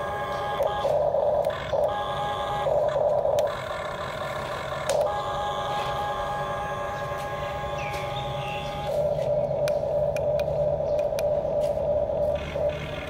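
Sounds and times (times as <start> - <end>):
toy excavator motors whirring: 0.0 - 11.3, 12.0 - 13.0.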